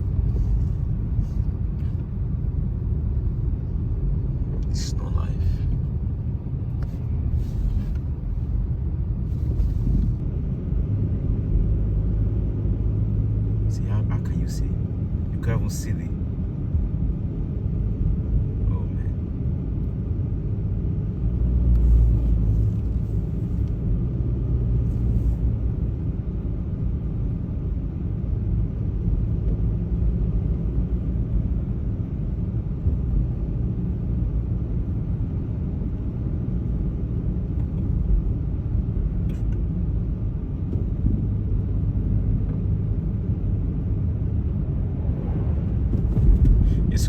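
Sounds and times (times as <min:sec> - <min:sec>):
car engine and tyres rumble: 0:00.0 - 0:47.0.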